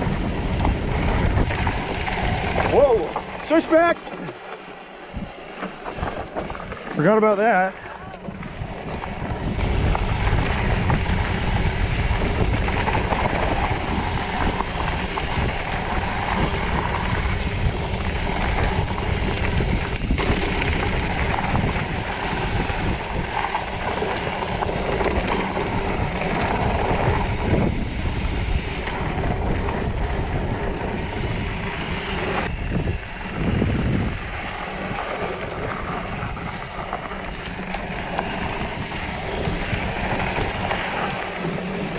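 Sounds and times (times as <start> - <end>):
wind buffeting microphone: 0.0 - 3.9, 5.0 - 41.9
bike tyres rumbling on dirt: 0.0 - 41.9.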